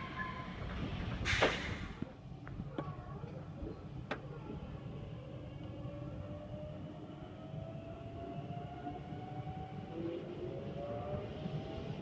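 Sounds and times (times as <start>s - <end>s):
train wheels rumbling on track: 0.0s - 2.9s, 3.9s - 12.0s.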